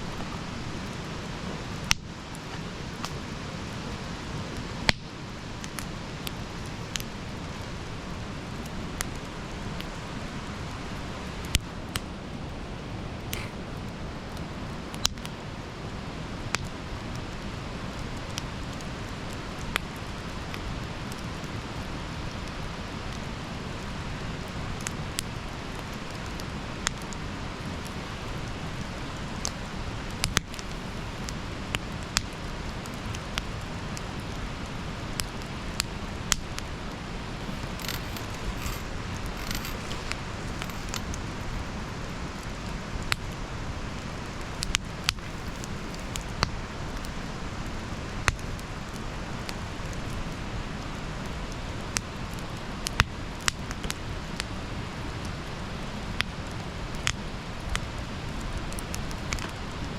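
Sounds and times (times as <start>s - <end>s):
campfire hissing: 0.0s - 59.9s
fire pops and crackles: 0.0s - 59.9s.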